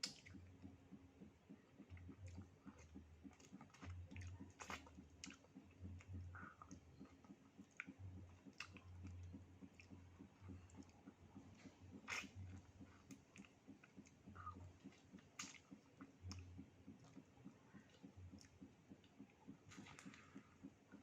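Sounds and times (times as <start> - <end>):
low steady hum: 0.0 - 21.0
chewing and wet mouth clicks: 1.5 - 20.3.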